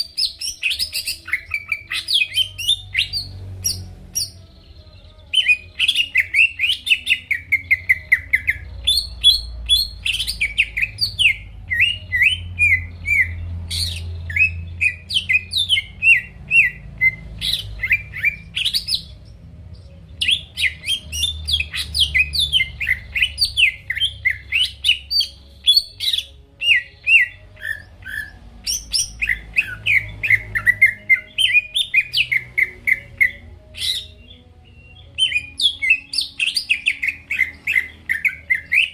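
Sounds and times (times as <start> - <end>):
bird singing chirps and whistles: 0.0 - 38.9.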